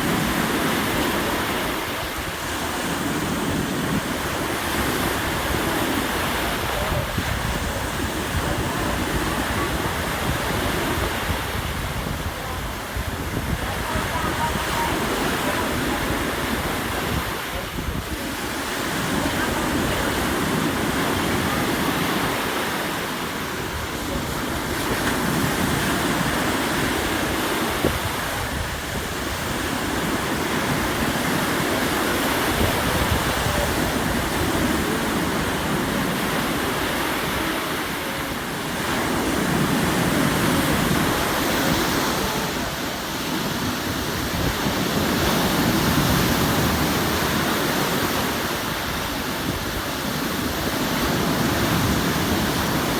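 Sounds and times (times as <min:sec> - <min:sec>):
sea waves washing onto shore: 0:00.0 - 0:52.9.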